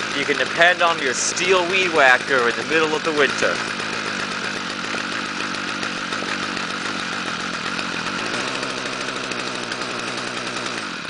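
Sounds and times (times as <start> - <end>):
string trimmer engine running: 0.0 - 11.0.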